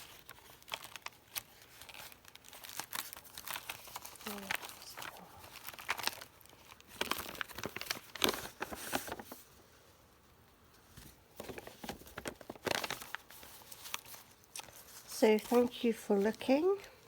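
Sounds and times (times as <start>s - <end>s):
paper pages rustling: 0.0s - 9.6s, 10.7s - 16.8s.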